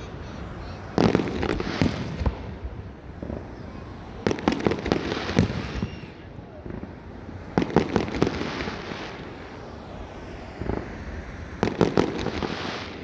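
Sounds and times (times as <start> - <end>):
fireworks bangs: 0.0 - 13.0
hissing crackle of fireworks: 0.0 - 13.0.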